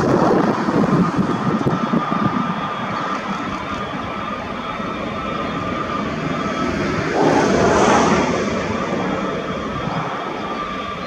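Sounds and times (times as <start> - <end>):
jet engines whining at low power: 0.0 - 11.0.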